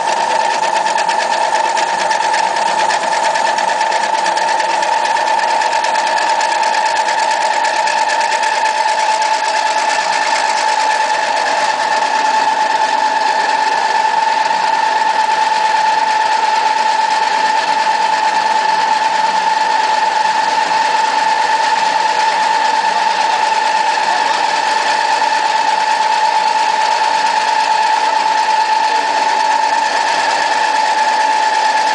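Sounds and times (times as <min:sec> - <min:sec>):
high machine whine: 0:00.0 - 0:31.9
pellet mill mechanical whir: 0:00.0 - 0:31.9.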